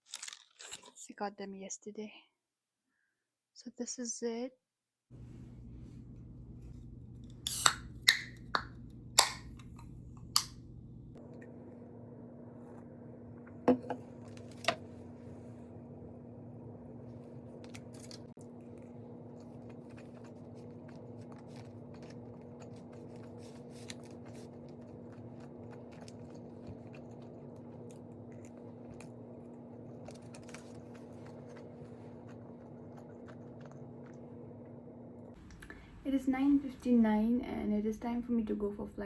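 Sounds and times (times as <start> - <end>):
low electrical hum: 5.1 - 39.0.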